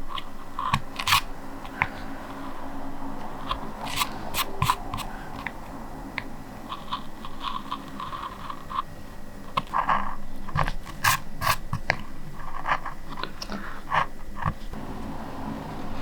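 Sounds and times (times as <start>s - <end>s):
lino cutter scraping: 0.0s - 16.0s.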